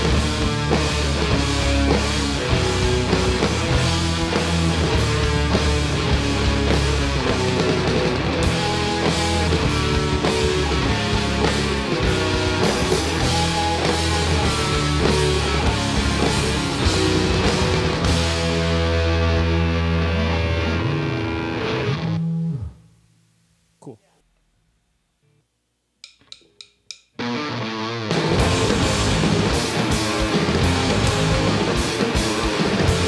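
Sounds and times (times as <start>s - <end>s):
drum kit: 0.0s - 20.8s, 26.0s - 33.0s
electric guitars: 0.0s - 22.9s, 27.1s - 33.0s.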